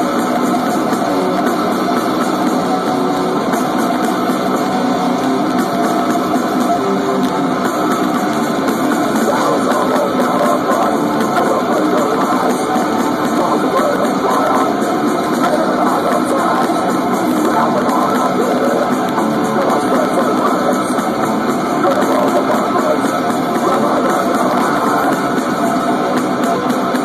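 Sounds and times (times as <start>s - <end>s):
distorted electric guitars: 0.0s - 27.0s
drums: 0.0s - 27.0s.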